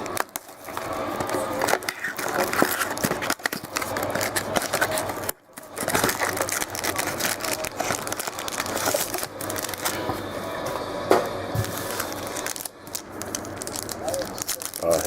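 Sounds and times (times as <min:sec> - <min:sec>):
card pack wrappers crinkling: 0:00.0 - 0:10.3, 0:11.5 - 0:15.0.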